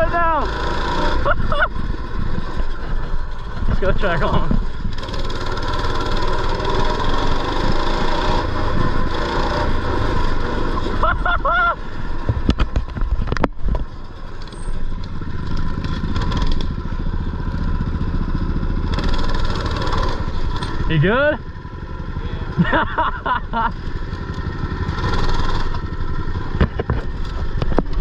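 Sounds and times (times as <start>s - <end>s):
mini bike engine running: 0.0s - 28.0s.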